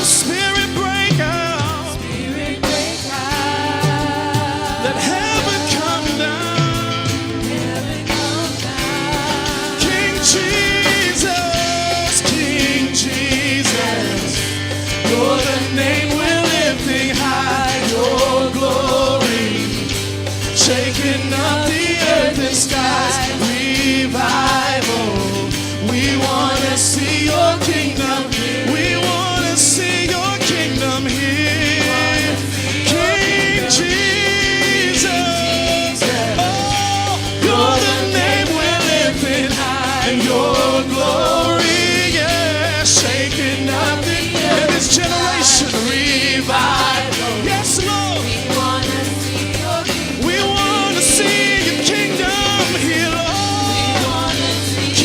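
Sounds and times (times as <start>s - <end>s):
band playing worship music: 0.0s - 55.0s
voices singing: 0.0s - 55.0s.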